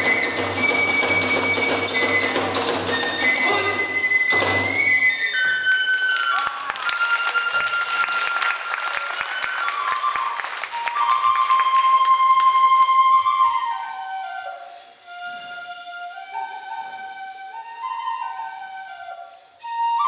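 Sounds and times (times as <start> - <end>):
bamboo flute long notes: 0.0 - 20.0.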